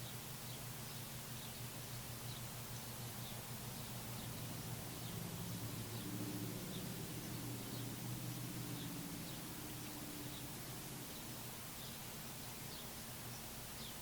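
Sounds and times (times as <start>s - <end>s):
high songbird chirps: 0.0s - 14.0s
low steady hum: 0.0s - 14.0s
outdoor hiss: 0.0s - 14.0s.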